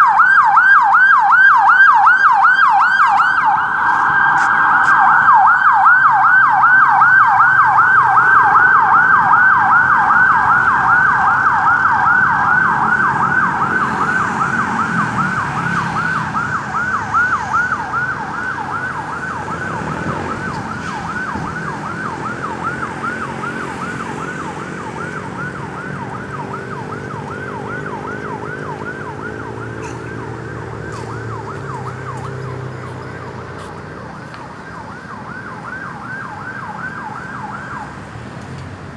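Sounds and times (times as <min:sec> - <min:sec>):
ambulance siren yelping: 0:00.0 - 0:38.2.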